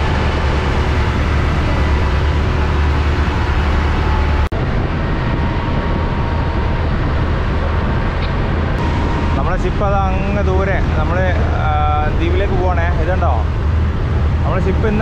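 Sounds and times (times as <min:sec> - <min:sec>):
boat engine humming: 0:00.0 - 0:15.0
wind and water rushing: 0:00.0 - 0:15.0.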